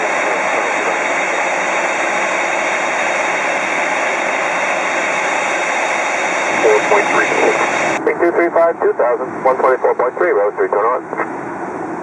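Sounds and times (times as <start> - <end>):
jet aircraft taxiing: 0.0 - 12.0.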